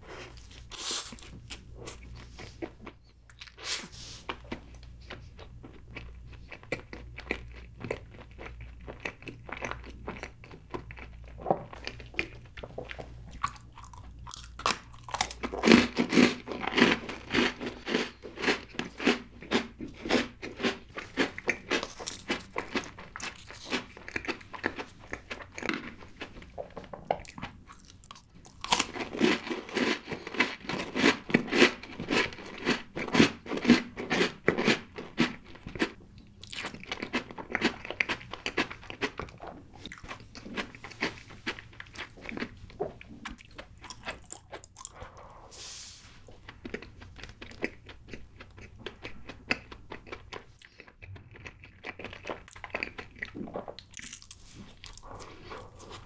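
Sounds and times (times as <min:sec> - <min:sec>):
soft chewing of cake: 0:00.0 - 0:56.0
rapid crunching of cookies: 0:00.2 - 0:45.3, 0:46.2 - 0:56.0.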